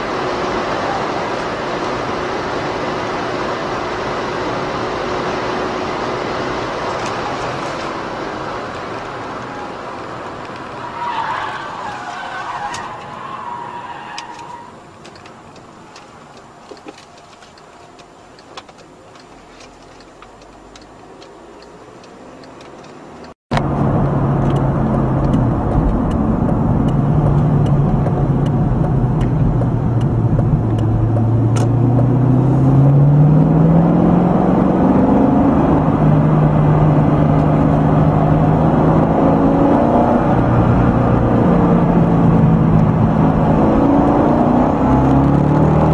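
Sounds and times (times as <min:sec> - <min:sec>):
car engine accelerating: 0:00.0 - 0:45.9
road and wind noise in car: 0:00.0 - 0:45.9.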